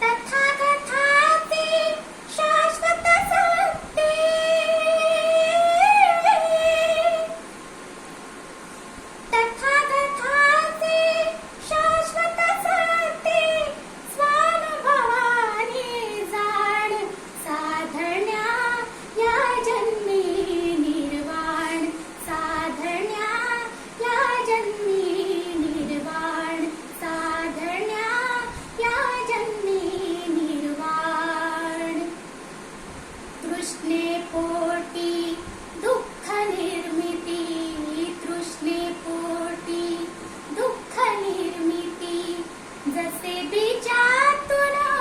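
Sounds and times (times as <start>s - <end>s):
girl singing: 0.0s - 7.5s, 9.2s - 32.2s, 33.4s - 45.0s.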